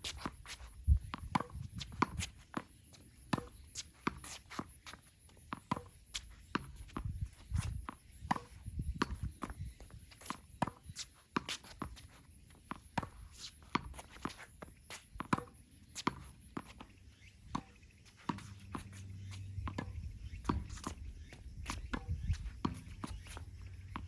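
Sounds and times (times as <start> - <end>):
tennis balls struck and bouncing: 0.0 - 24.0.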